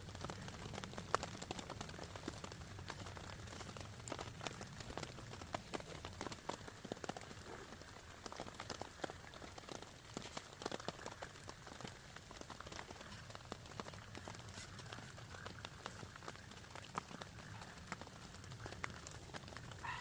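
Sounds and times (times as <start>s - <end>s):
raindrops hitting a surface: 0.0s - 20.0s
steady rain falling: 0.0s - 20.0s.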